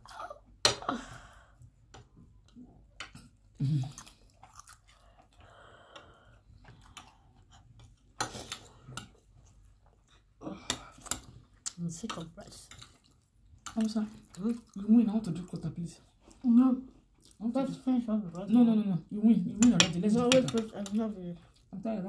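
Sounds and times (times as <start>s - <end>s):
people chewing food: 0.0s - 22.0s.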